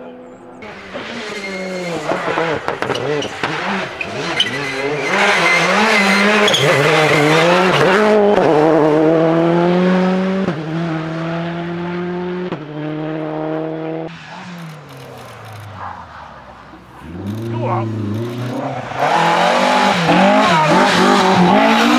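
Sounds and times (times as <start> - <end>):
car accelerating with gear upshifts: 0.0 - 21.9
rally car engine revving: 0.0 - 21.9.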